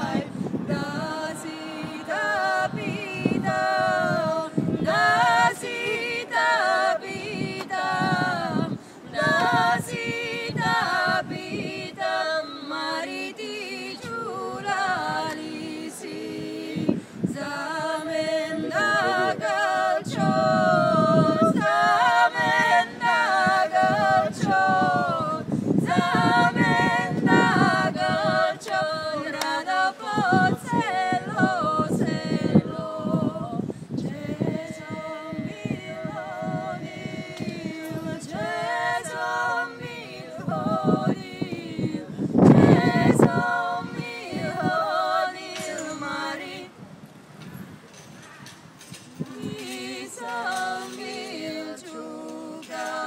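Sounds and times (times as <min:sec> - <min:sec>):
women singing a cappella: 0:00.0 - 0:46.8, 0:49.2 - 0:53.0.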